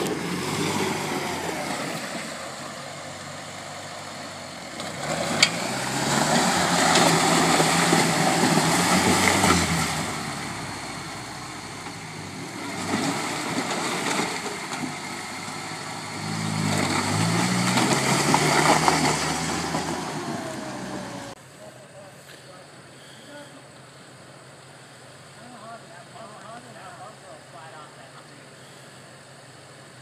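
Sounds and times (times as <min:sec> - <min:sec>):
tyres churning through mud: 0:00.0 - 0:28.7
off-road vehicle engine under load: 0:00.0 - 0:30.0.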